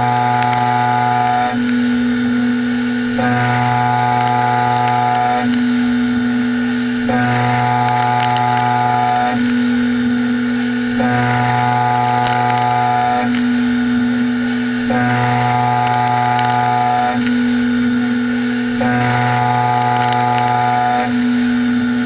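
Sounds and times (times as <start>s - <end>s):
milling machine cutting whine: 0.0s - 22.0s.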